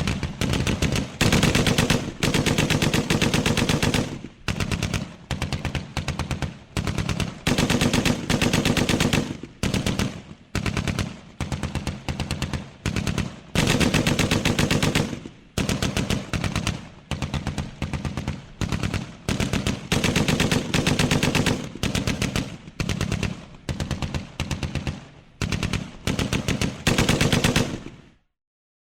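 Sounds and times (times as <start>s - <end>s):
machine-gun bursts: 0.0s - 24.8s, 25.4s - 27.9s.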